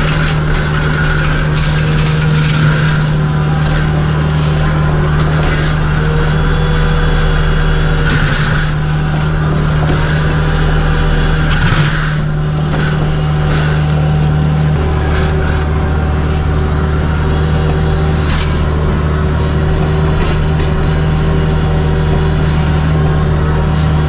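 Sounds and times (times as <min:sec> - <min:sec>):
diesel engine under load: 0:00.0 - 0:24.0
flail mower chewing brush: 0:00.0 - 0:24.0.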